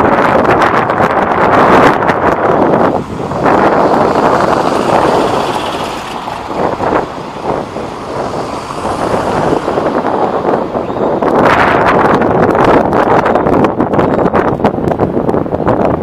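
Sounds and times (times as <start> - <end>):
cars passing on cobblestones: 0.0 - 16.0.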